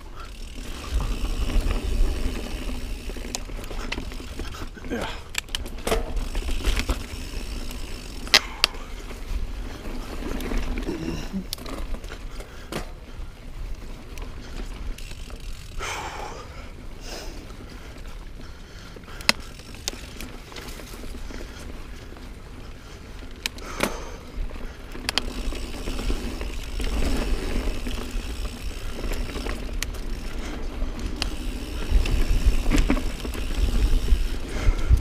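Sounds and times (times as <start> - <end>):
bike rattling: 0.0 - 35.0
bike tyres rolling on dirt: 0.0 - 35.0.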